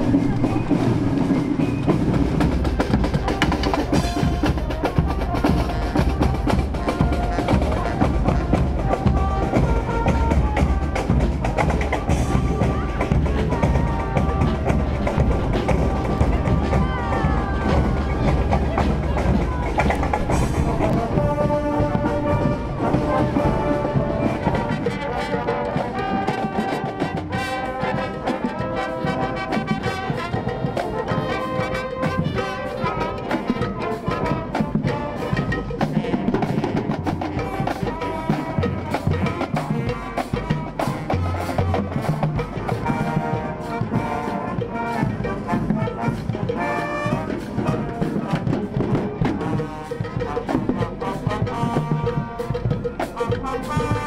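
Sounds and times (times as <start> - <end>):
brass with sousaphones: 0.0 - 54.0
snare and bass drums: 0.0 - 54.0.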